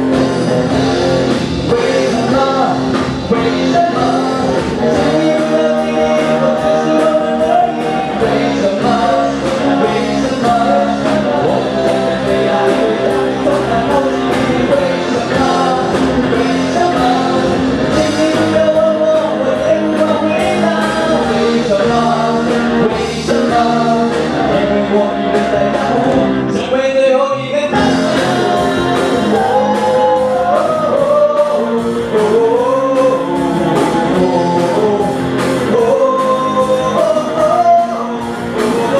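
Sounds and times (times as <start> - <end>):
live band playing: 0.0 - 38.9
person singing: 0.0 - 38.9.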